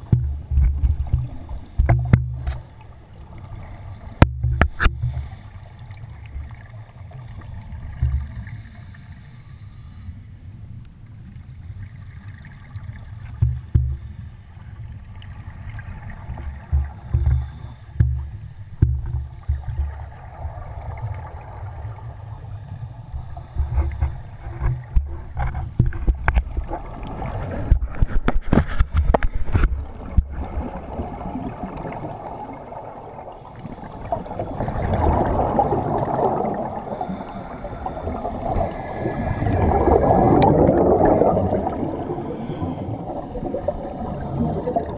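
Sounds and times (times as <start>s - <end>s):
underwater bubbles gurgling: 0.0s - 9.0s, 12.0s - 44.9s.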